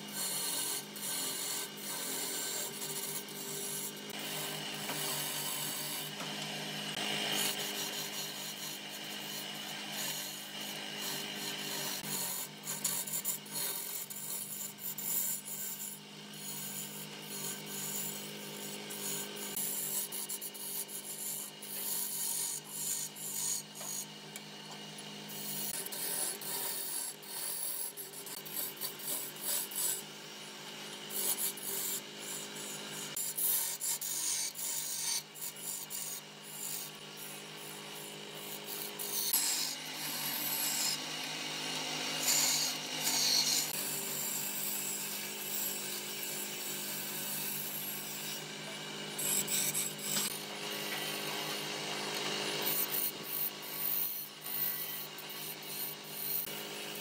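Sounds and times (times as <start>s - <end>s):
gouge scraping spinning wood: 0.0s - 57.0s
wood lathe humming: 0.0s - 57.0s.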